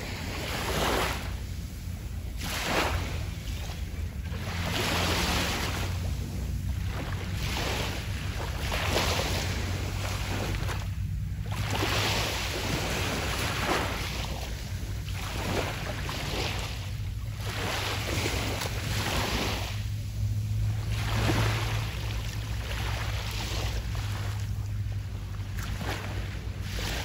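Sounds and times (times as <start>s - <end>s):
steady low rumble: 0.0s - 27.0s
waves breaking on a beach: 0.0s - 27.0s.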